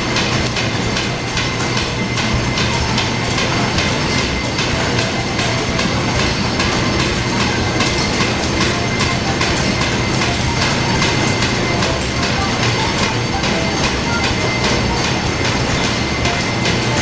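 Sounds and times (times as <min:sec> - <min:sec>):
belts clicking over pulleys: 0:00.0 - 0:17.0
line shaft and motor hum: 0:00.0 - 0:17.0.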